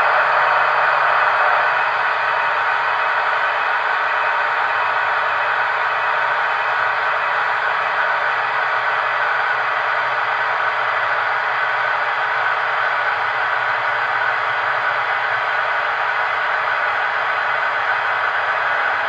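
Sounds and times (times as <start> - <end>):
model locomotive running sound: 0.0 - 19.0.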